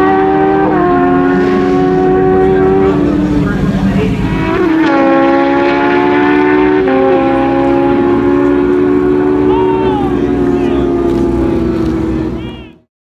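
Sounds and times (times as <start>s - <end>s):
motorcycle engines wailing: 0.0s - 12.9s.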